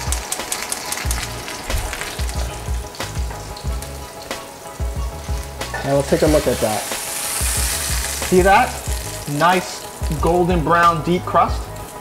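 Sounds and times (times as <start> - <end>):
oil spitting crackles: 0.0 - 12.0
steak sizzling: 0.0 - 12.0.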